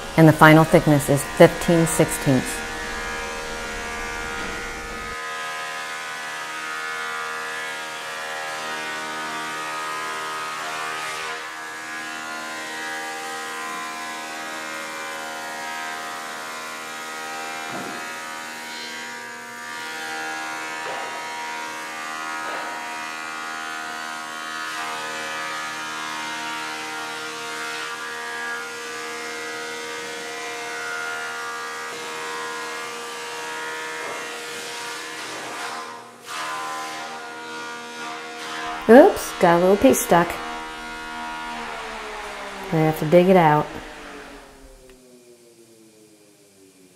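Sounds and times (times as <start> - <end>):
thickness planer whining: 0.0 - 45.7.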